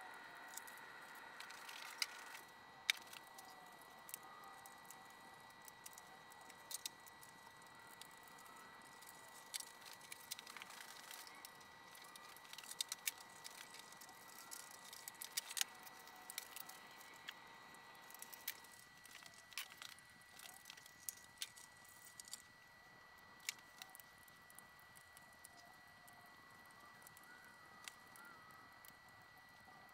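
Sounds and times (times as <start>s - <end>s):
faint high-pitched tone: 0.0s - 29.9s
clicks and rattles of wires: 0.4s - 29.7s.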